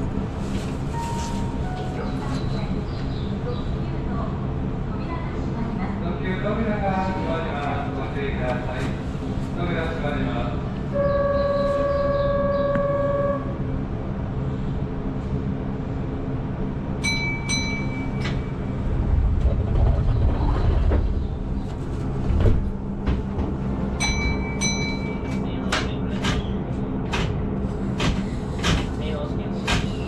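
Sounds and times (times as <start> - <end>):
low running rumble: 0.0 - 30.0
train motor hum: 0.0 - 30.0.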